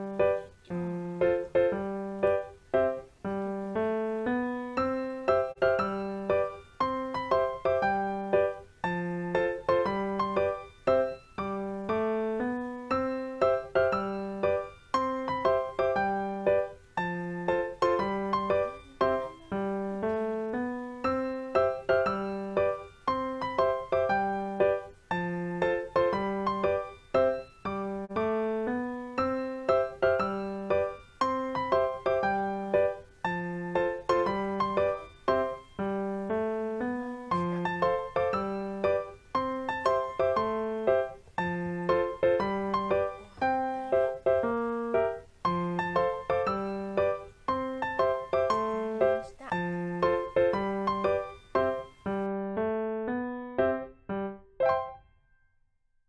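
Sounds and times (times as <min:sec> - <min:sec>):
light piano tune: 0:00.0 - 0:55.4.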